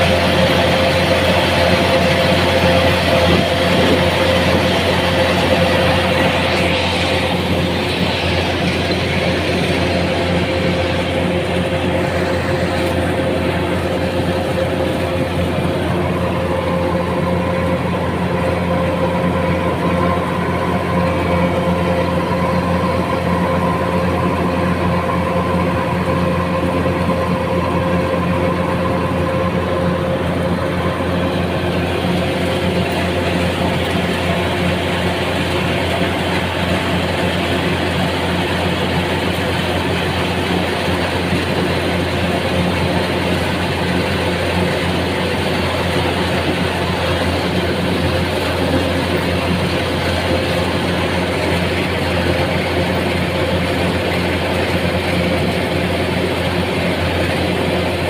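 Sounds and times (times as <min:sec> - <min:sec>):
heavy harvester engine humming: 0:00.0 - 0:58.0.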